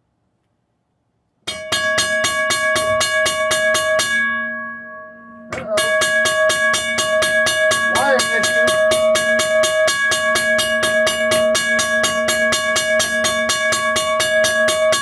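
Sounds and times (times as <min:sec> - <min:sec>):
railroad crossing bell ringing: 0:01.5 - 0:15.0.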